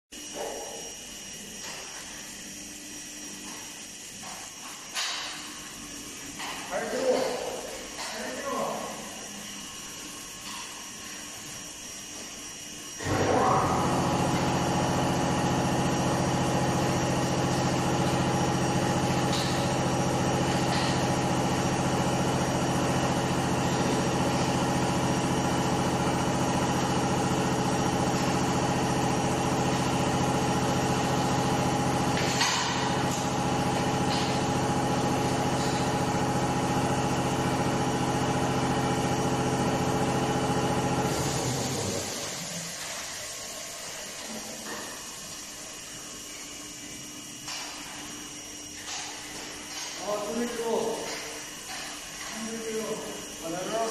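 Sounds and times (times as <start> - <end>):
industrial machinery humming: 0.2 - 53.9.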